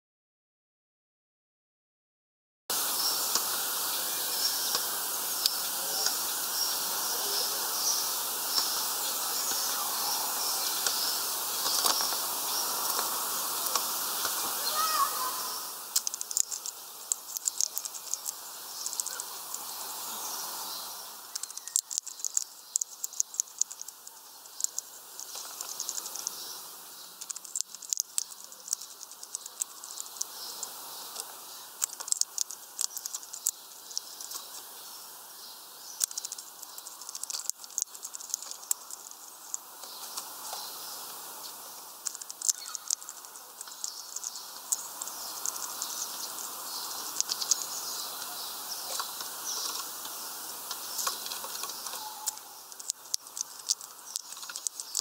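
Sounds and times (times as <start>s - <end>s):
birds pecking and cracking seeds: 2.7s - 55.0s
faint birdsong: 2.7s - 55.0s.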